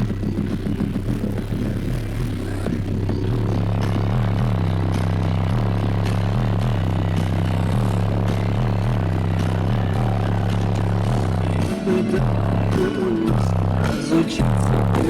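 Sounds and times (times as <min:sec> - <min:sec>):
deep bass from subwoofers: 0:00.0 - 0:15.0.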